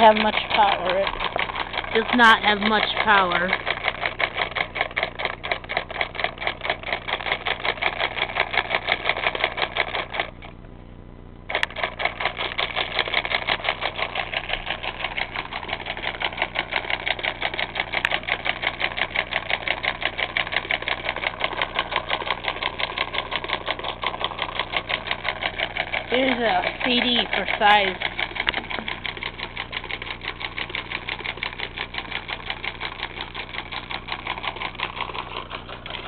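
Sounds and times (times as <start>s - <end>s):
solenoid engine clacking: 0.0s - 10.7s, 11.5s - 36.0s.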